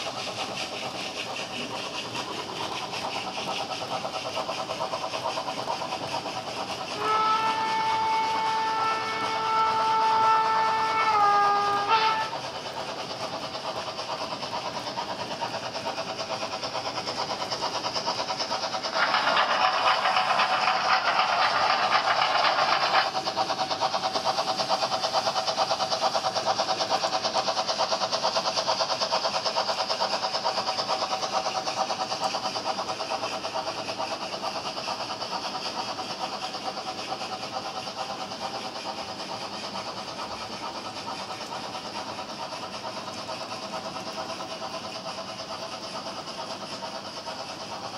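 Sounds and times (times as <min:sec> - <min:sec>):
model train motor whirring: 0:00.0 - 0:47.9
wagons clicking over track: 0:00.0 - 0:47.9.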